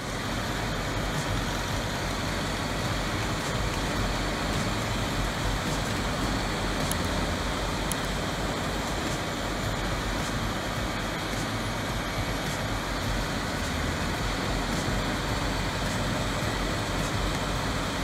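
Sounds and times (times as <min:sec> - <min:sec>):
wood grinder running: 0:00.0 - 0:18.0.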